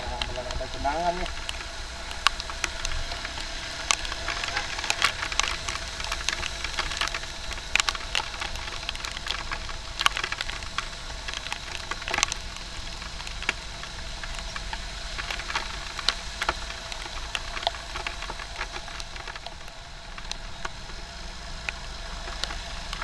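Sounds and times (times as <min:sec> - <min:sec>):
motorbike low rumble: 0:00.0 - 0:23.0
raindrops tapping on microphone: 0:00.0 - 0:23.0.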